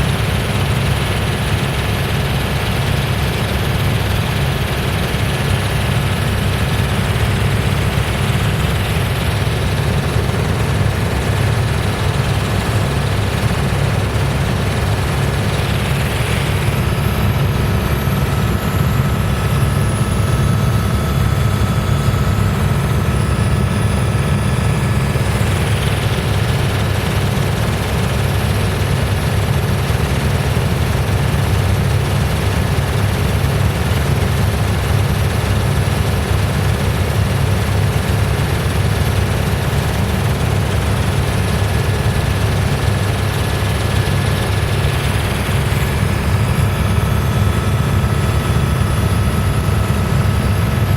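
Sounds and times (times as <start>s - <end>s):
helicopter rotor drone: 0.0s - 50.9s.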